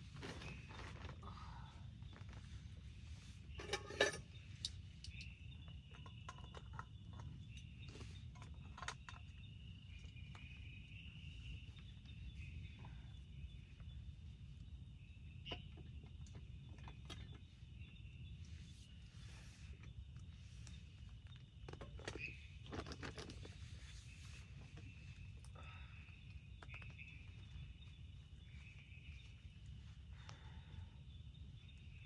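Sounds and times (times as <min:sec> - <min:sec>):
insects chirring: 0:03.4 - 0:32.0.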